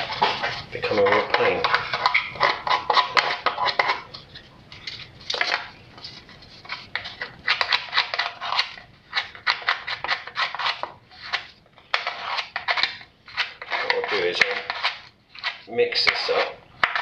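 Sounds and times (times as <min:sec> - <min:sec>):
knife scraping a plastic lid: 0:00.0 - 0:17.0.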